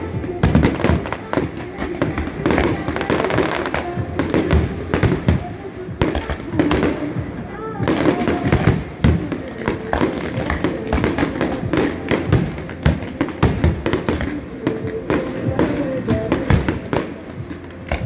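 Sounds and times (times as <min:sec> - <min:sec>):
fireworks bursting: 0:00.0 - 0:18.0.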